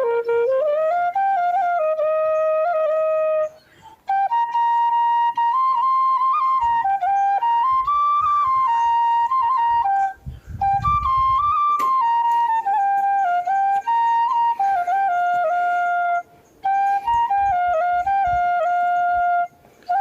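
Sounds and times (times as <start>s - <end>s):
solo flute melody: 0.0s - 20.0s.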